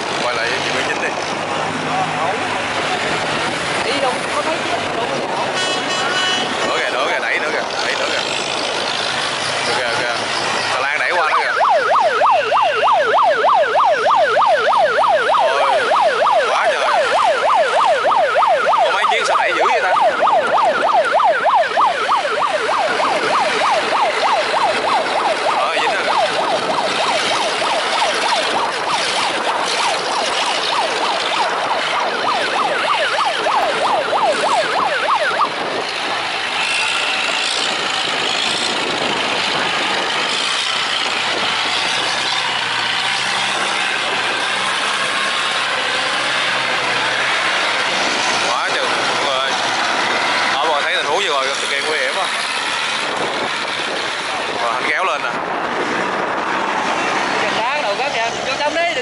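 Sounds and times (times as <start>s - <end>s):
boat engines: 0.0s - 59.0s
water churning: 0.0s - 59.0s
warbling electronic siren: 6.5s - 59.0s.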